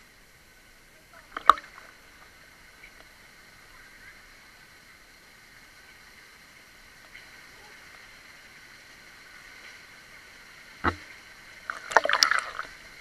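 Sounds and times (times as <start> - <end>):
pool water lapping and splashing: 0.0 - 13.0.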